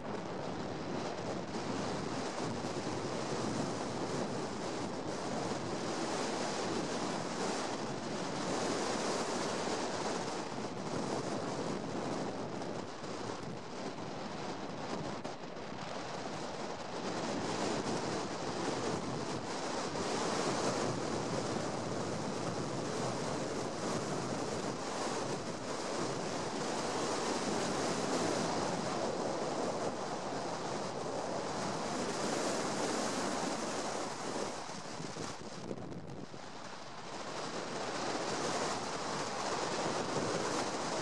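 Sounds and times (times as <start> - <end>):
wind and road noise: 0.0 - 41.0.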